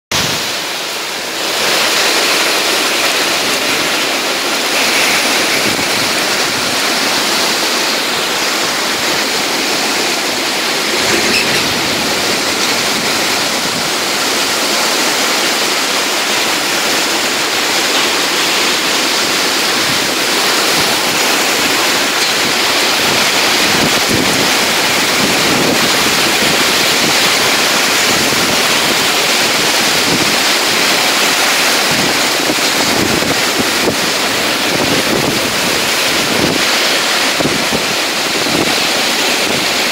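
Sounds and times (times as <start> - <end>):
heavy rain on metal roofs: 0.1 - 39.9.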